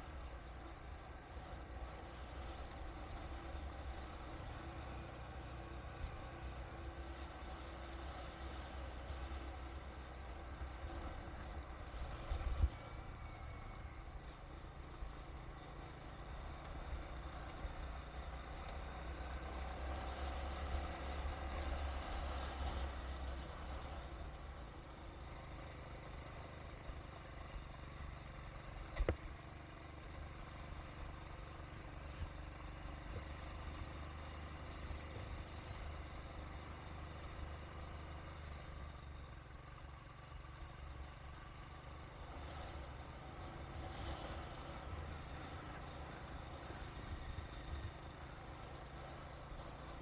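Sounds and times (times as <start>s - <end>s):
vehicle engine and road rumble: 0.0s - 50.0s.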